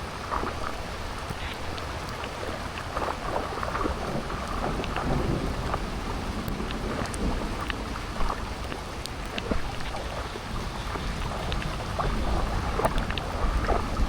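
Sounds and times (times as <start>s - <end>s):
rain falling: 0.0s - 14.0s
wind rumble on microphone: 0.0s - 14.0s.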